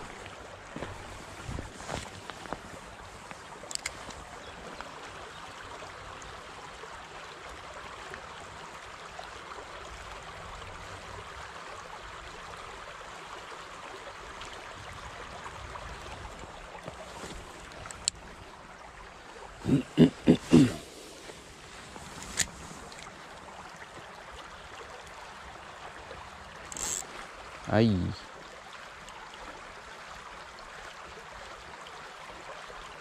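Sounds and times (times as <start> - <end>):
stream running over gravel: 0.0 - 33.0.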